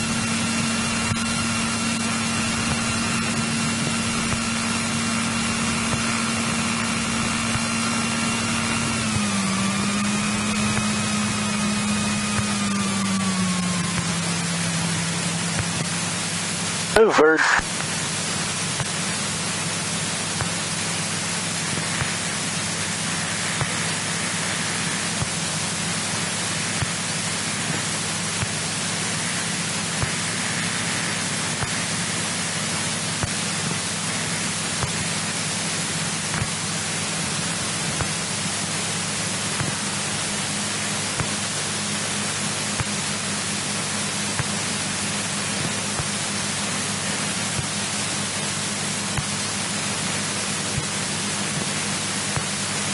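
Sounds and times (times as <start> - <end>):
low hum: 0.0 - 52.9
radio static hiss: 0.0 - 52.9.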